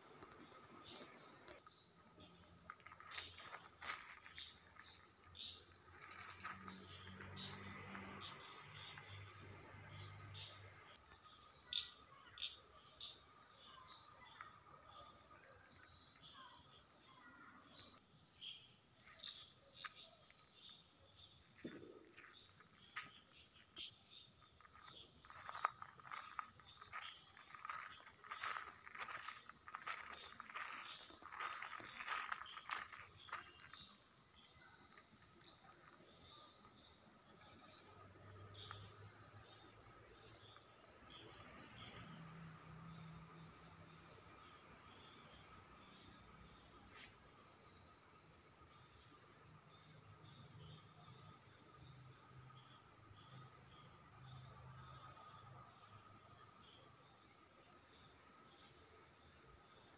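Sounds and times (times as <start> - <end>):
crickets chirping trill: 0.0 - 59.9
lower pulsing insect chorus: 0.0 - 59.9.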